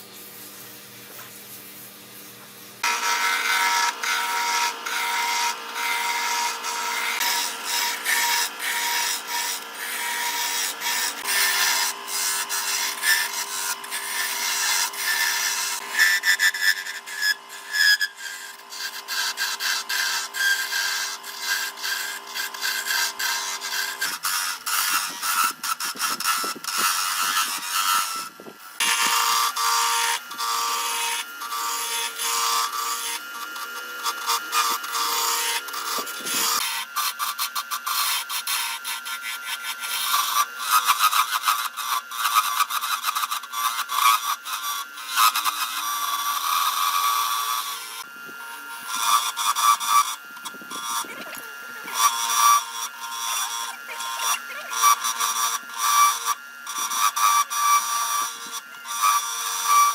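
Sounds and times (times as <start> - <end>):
power tool motor hum: 0.0 - 59.9.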